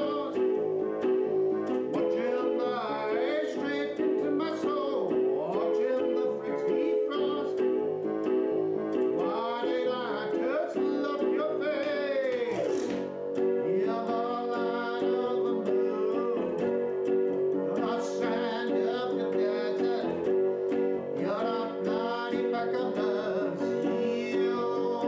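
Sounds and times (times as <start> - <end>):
person singing with vibrato: 0.0 - 0.6, 1.9 - 7.8, 9.2 - 25.0
electronic keyboard chords: 0.0 - 25.0.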